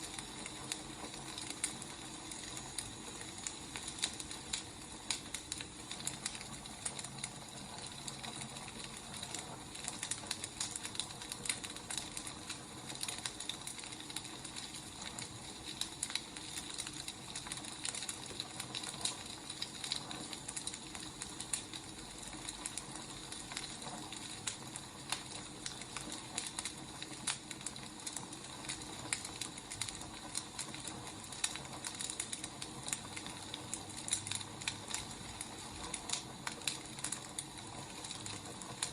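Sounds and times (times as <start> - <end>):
firewood crackling and popping: 0.0 - 38.9
wood fire hissing: 0.0 - 38.9.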